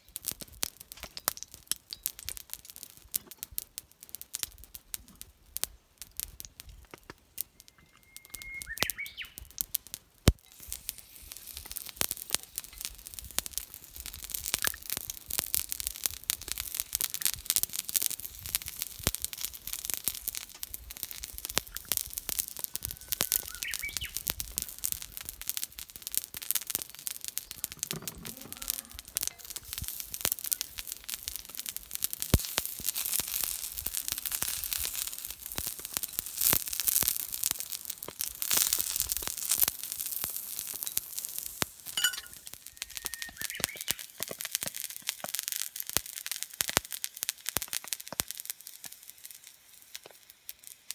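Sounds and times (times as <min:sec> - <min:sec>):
steak sizzling on a griddle: 0:07.8 - 0:50.9.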